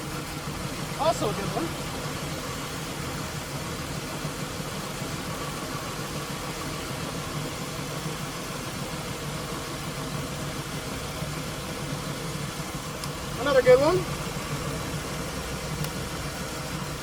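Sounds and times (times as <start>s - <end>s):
misfiring car engine idling: 0.0s - 17.0s.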